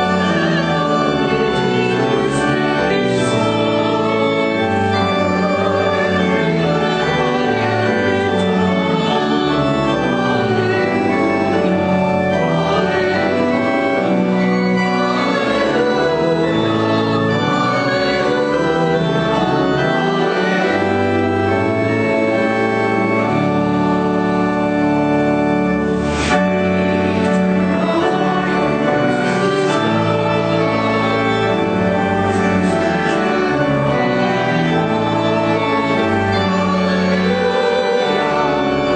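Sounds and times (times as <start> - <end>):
congregation singing a hymn: 0.0 - 38.9
organ chords: 0.0 - 38.9.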